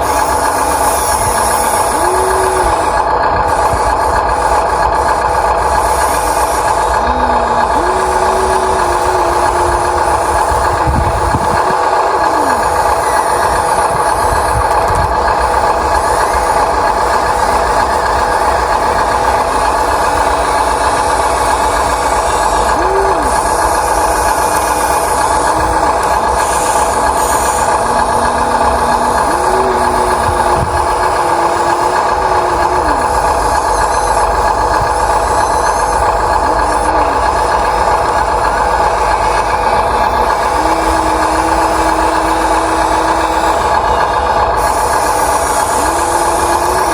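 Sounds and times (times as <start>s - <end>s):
small electric motor whines: 0.0s - 46.9s
steady whine: 0.0s - 46.9s.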